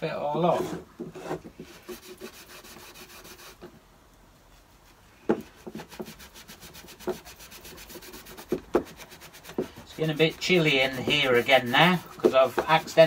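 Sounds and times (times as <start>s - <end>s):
hand rubbing wax on wood: 0.4s - 3.7s, 4.6s - 13.0s.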